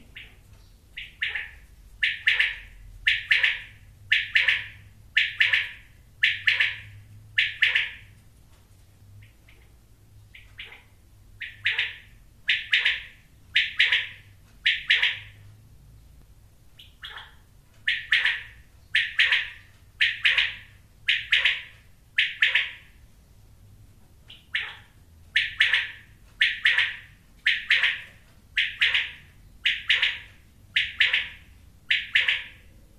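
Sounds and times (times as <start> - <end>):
quail calling: 1.0 - 8.1, 10.4 - 15.4, 16.8 - 23.0, 24.3 - 32.8.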